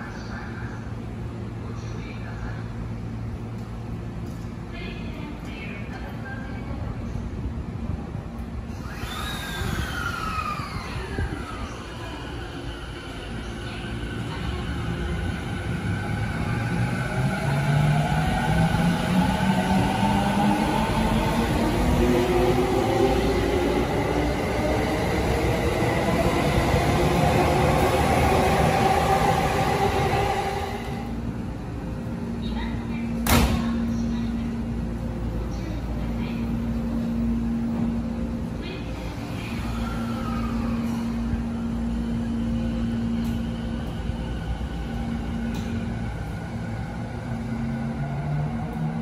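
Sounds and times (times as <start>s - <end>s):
electric train hum and rumble: 0.0s - 49.0s.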